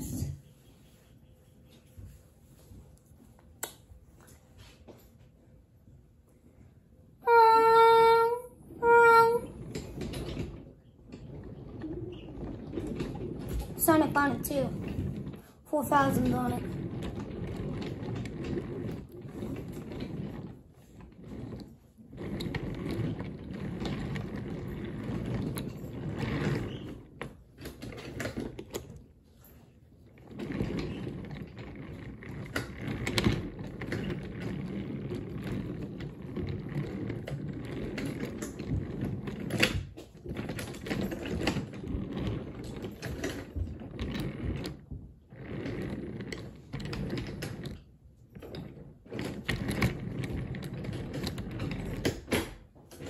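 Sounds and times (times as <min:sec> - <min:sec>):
wooden toy train rattling: 0:07.3 - 0:53.0.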